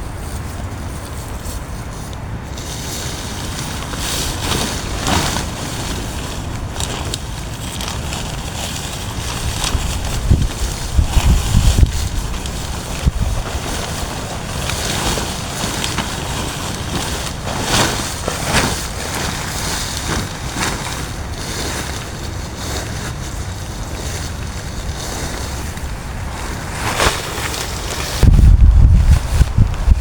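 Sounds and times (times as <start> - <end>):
wind buffeting microphone: 0.0 - 30.0
wind noise: 0.0 - 30.0.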